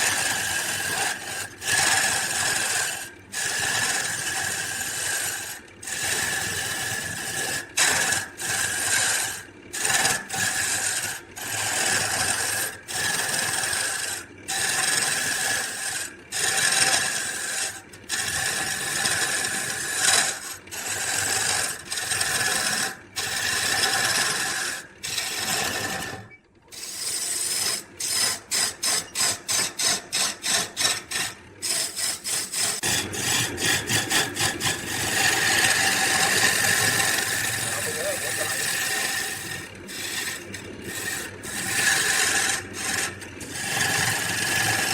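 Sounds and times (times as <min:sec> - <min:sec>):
tool rasping wood: 0:00.0 - 0:44.9.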